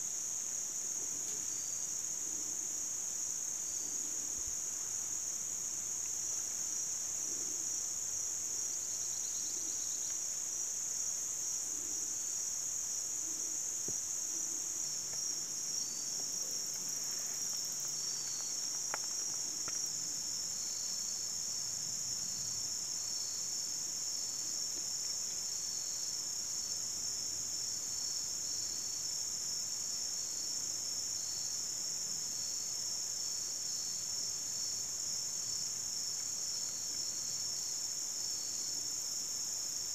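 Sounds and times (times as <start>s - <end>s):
high-pitched insect chorus: 0.0s - 39.9s
insect chirps: 0.0s - 39.9s.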